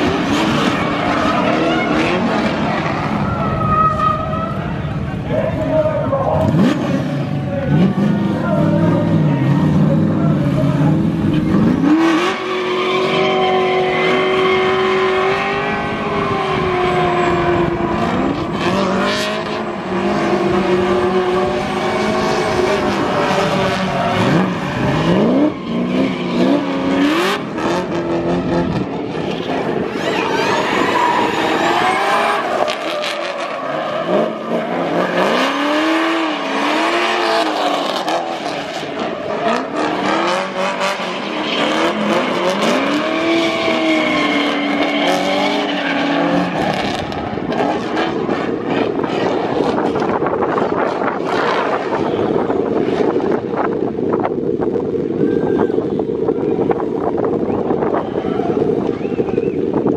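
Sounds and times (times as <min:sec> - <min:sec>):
tyres squealing and skidding: 0:00.0 - 0:49.9
car engines revving: 0:00.0 - 0:59.9.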